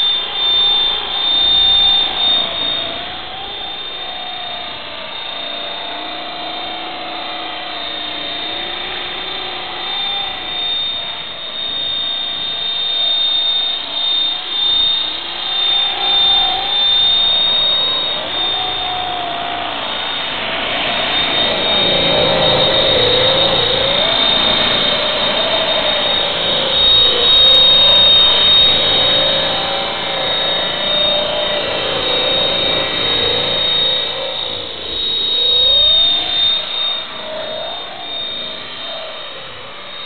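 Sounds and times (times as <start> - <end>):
high whine of motor and gears: 0.0 - 40.0
rotor hum: 0.0 - 40.0.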